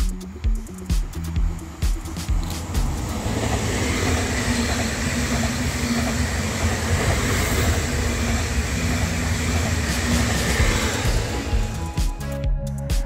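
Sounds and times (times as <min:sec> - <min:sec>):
wheels rushing on rail: 0:00.2 - 0:12.0.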